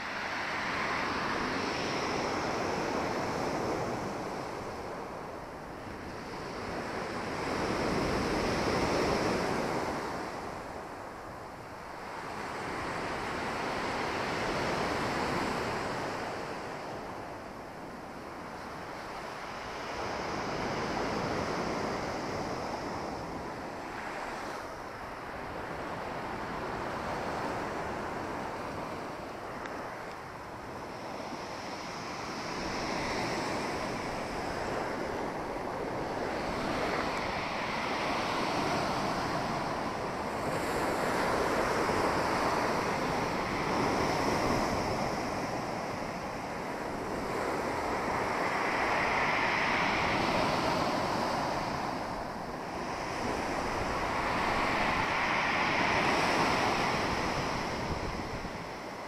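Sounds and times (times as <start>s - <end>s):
waves breaking on shore: 0.0s - 59.0s
wind buffeting microphone: 0.0s - 59.0s.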